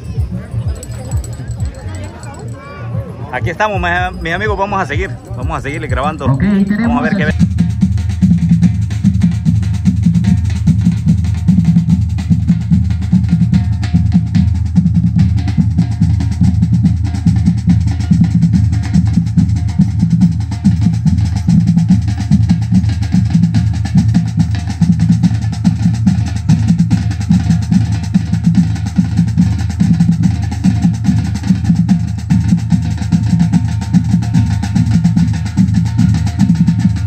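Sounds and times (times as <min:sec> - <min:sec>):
marching bass and snare drums: 0:03.4 - 0:37.0.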